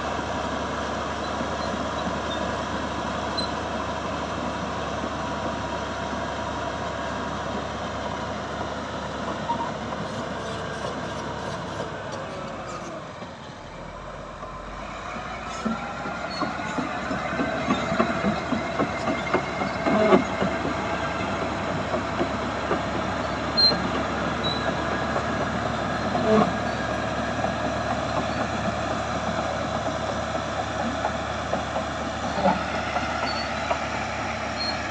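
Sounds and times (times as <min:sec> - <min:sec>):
diesel engine running: 0:00.0 - 0:34.9
steel tracks clattering and squealing: 0:01.1 - 0:03.7, 0:08.1 - 0:13.4, 0:14.7 - 0:34.9.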